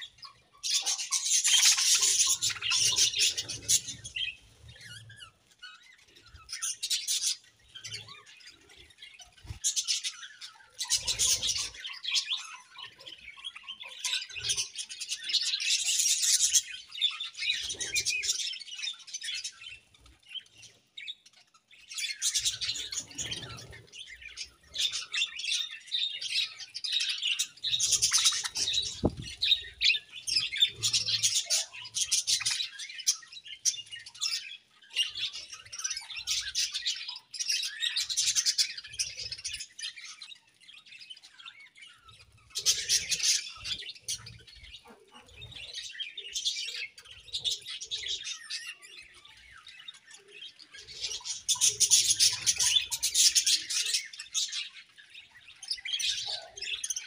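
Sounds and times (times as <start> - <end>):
budgerigars chirping: 0.0 - 20.4, 21.0 - 40.6, 41.2 - 57.0.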